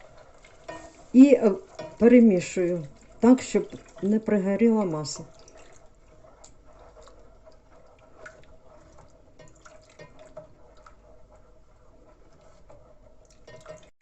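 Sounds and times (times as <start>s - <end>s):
wet sauce stirring sounds: 0.0s - 13.9s.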